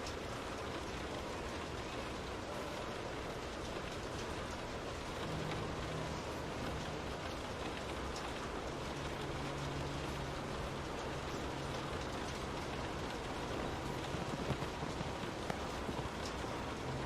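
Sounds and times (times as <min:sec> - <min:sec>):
faint low hum: 0:00.0 - 0:17.0
rain falling: 0:00.0 - 0:17.0.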